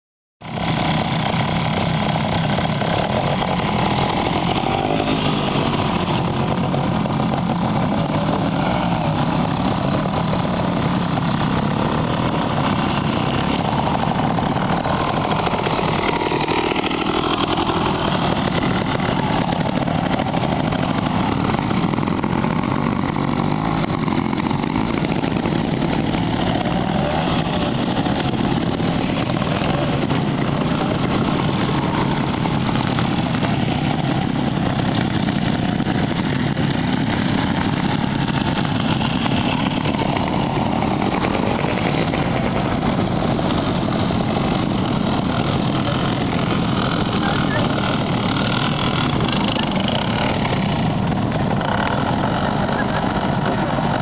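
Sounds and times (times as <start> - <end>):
motorcycle engines idling and revving: 0.4 - 54.0.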